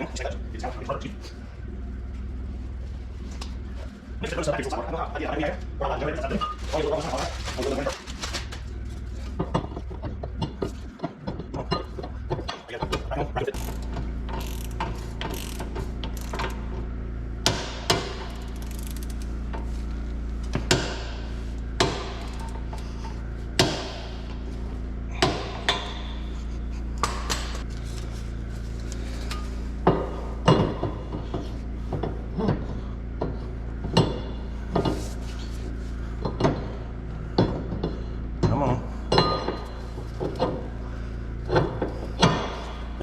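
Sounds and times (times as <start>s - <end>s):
low hum: 0.0s - 43.0s.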